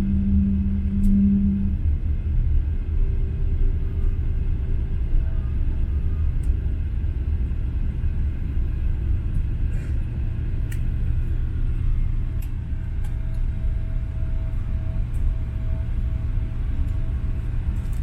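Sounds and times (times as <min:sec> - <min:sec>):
low rumble inside aircraft cabin: 0:00.0 - 0:18.0.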